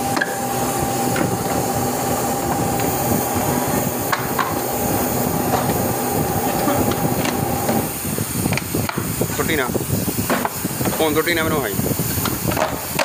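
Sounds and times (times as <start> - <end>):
high machine whine: 0.0 - 12.9
moulding machine running: 0.0 - 13.0.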